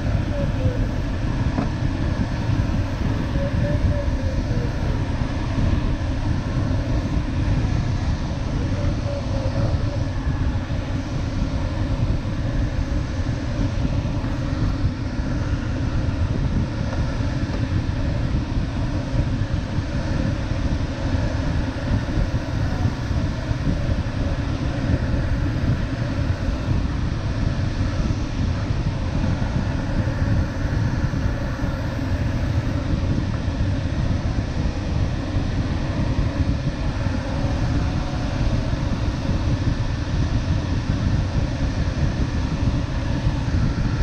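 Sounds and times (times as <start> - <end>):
air rushing over glider canopy: 0.0 - 44.0.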